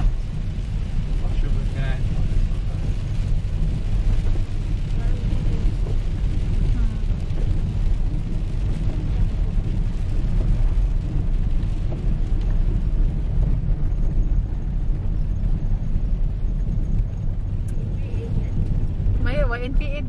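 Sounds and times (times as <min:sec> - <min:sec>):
car cabin road rumble: 0:00.0 - 0:20.0
rain: 0:00.0 - 0:20.0.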